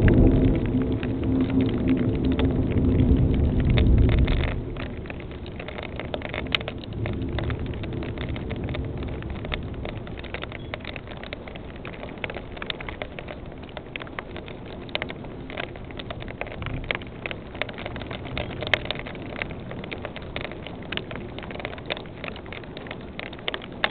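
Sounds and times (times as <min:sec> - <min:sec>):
thunder rumbling: 0:00.0 - 0:23.3
raindrops tapping: 0:00.0 - 0:23.9
steady rain: 0:00.0 - 0:23.9.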